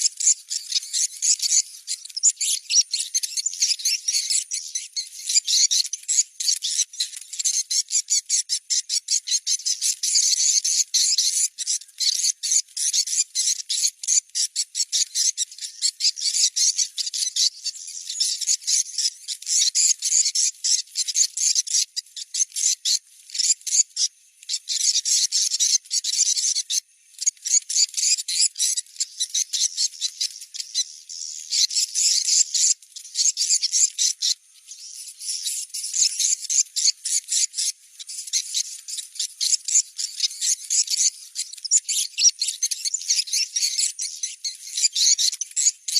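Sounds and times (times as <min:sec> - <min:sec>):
rapid high bird chirping: 0:00.0 - 0:45.9.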